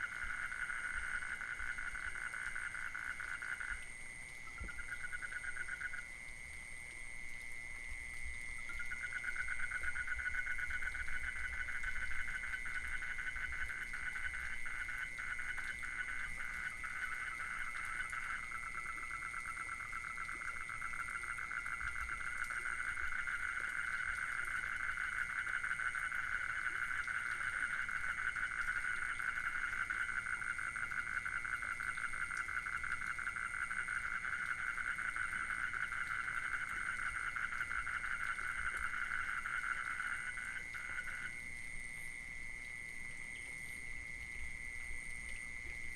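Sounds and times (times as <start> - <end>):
frogs calling: 0.0 - 7.0, 7.7 - 45.9.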